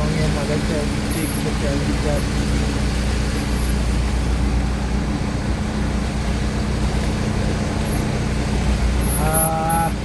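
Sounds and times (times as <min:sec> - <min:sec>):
road noise: 0:00.0 - 0:10.0
vehicle engine hum: 0:00.0 - 0:10.0.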